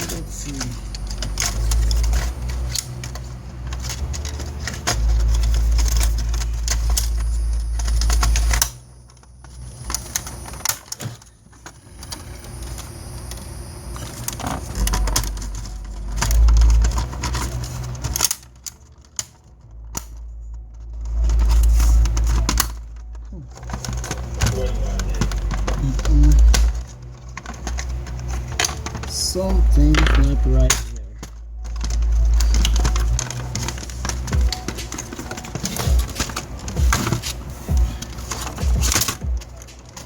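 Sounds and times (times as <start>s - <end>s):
rumbling handling noise: 0.0s - 40.0s
small parts clicking and rattling: 0.0s - 40.0s.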